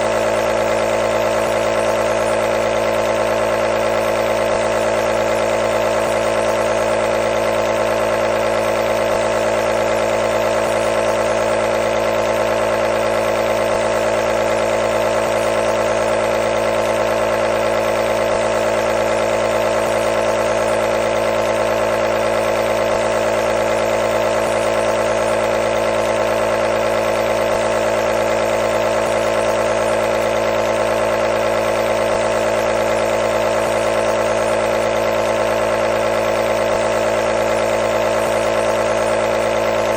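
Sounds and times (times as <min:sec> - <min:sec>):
compressor motor humming: 0:00.0 - 0:39.9.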